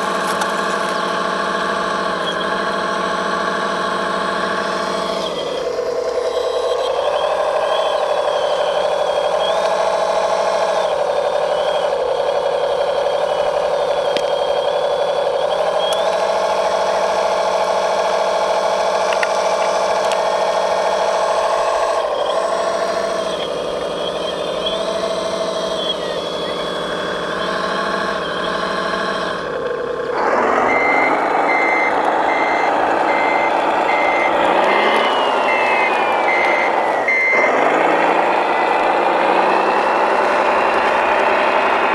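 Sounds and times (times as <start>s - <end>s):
loud machine noise: 0.0s - 41.9s
model machine motor whine: 0.0s - 41.9s
reversing alarm beeping: 0.0s - 41.9s.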